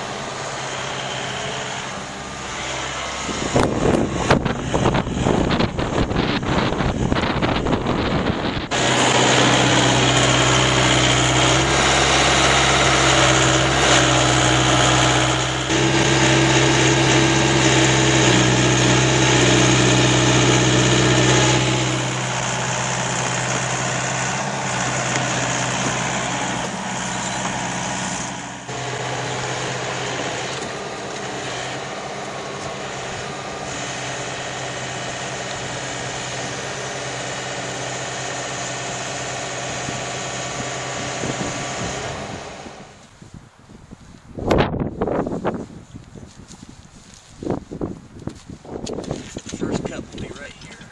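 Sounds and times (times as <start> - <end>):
diesel engine humming: 0.0 - 43.2, 48.1 - 50.9.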